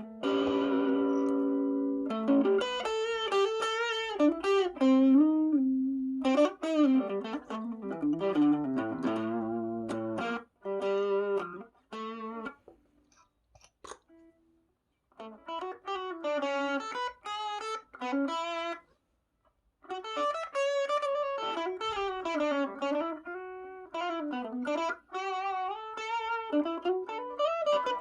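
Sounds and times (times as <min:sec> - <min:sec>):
overdriven electric guitar lead: 0:00.0 - 0:12.7, 0:15.2 - 0:18.8, 0:19.9 - 0:28.0.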